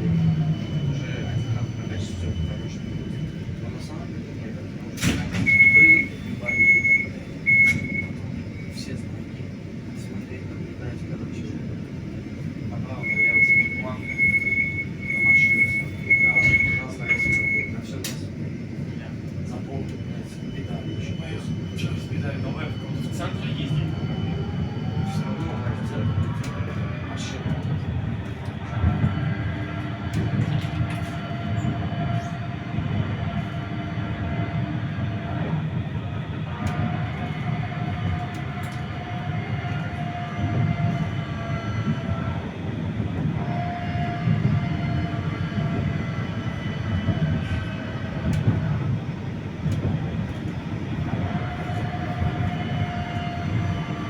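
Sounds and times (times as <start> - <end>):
tram motor whine: 0.0 - 54.0
tram wheels rumbling on rails: 0.0 - 54.0.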